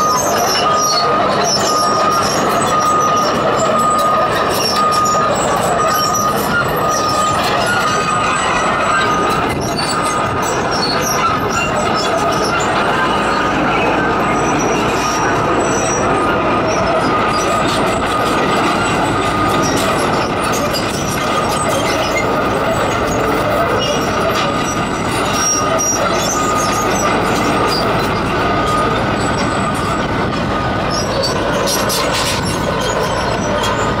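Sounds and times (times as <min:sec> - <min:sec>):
diesel engine running: 0:00.0 - 0:34.0
track links clanking and squealing: 0:00.0 - 0:34.0.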